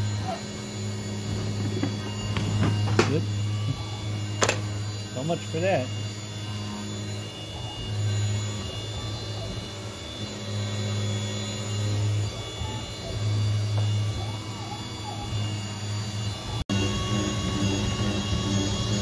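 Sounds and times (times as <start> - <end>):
high-pitched machine whine: 0.0 - 19.0
milling machine low hum: 0.0 - 19.0.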